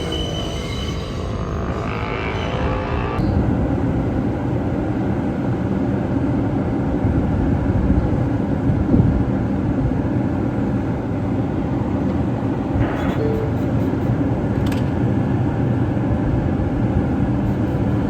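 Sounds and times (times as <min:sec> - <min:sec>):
subway train wheels rumbling on rail: 0:00.0 - 0:18.0.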